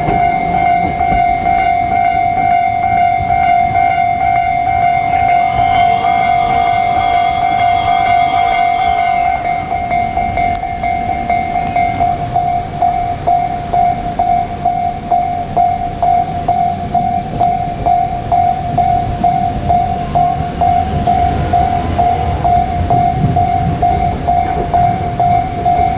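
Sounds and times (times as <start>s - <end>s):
electric train passing: 0.0s - 25.9s
level crossing bell dinging: 0.0s - 25.9s.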